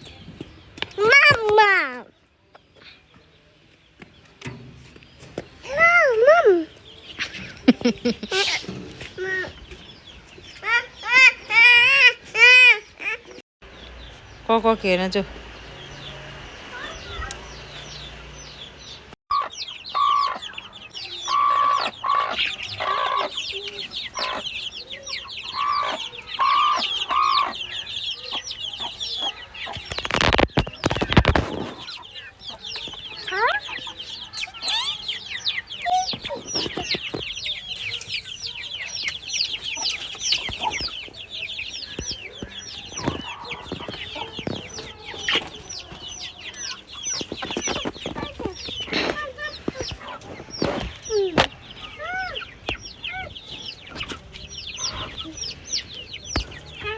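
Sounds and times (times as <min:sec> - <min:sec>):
chickens clucking and peeping: 0:00.0 - 0:56.9.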